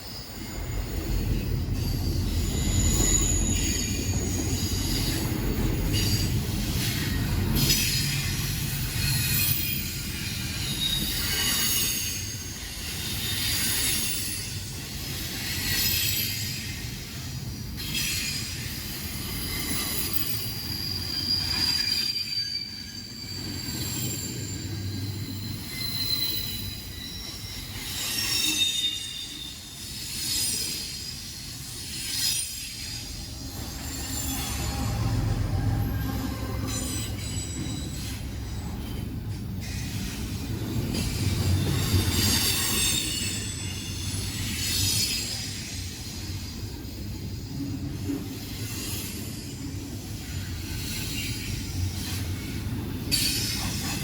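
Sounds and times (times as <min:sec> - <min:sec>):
freight train rumbling: 0:00.0 - 0:54.0
wheels squealing against rails: 0:00.0 - 0:54.0.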